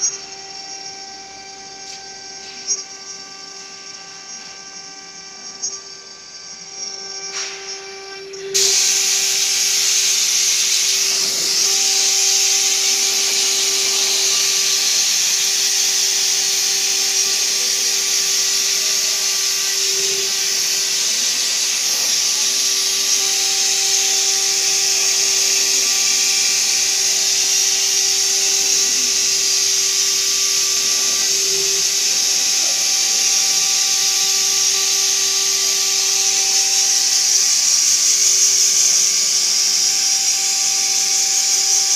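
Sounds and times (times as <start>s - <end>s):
router bit cutting board hiss: 0.0s - 41.9s
router spindle hum: 0.0s - 41.9s.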